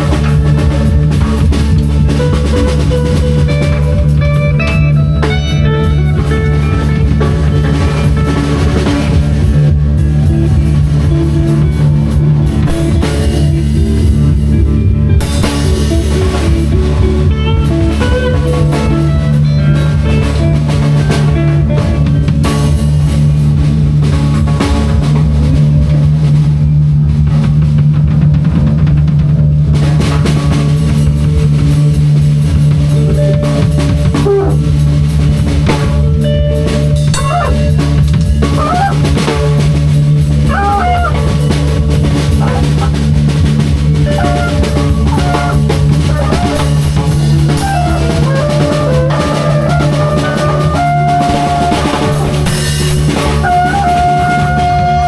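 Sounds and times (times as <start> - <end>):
band playing: 0.0 - 55.0
drum kit beat: 0.0 - 55.0
guitar: 0.0 - 55.0.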